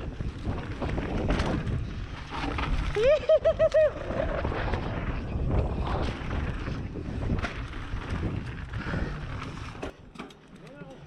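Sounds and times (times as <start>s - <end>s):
wind buffeting microphone: 0.0s - 10.0s
bike rumbling and rattling on trail: 0.0s - 11.0s.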